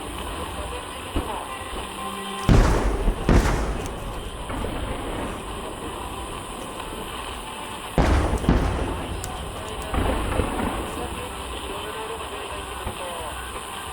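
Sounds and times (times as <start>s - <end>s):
firework shells booming: 0.0s - 13.9s.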